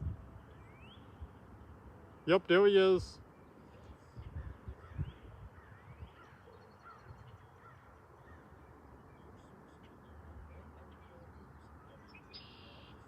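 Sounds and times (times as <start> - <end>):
birds calling faintly: 0.0 - 13.0.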